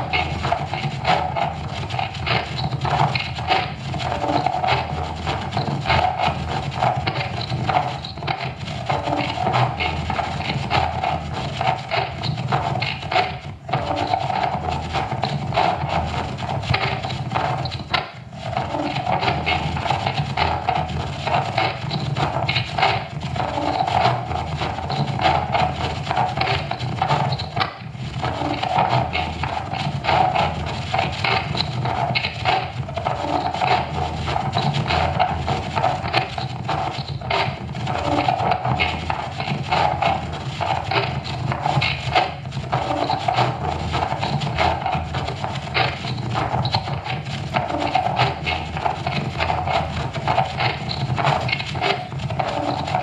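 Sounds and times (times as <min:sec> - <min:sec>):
grinding electronic noise music: 0:00.0 - 0:53.0
rapid clicks and crackle: 0:00.0 - 0:53.0.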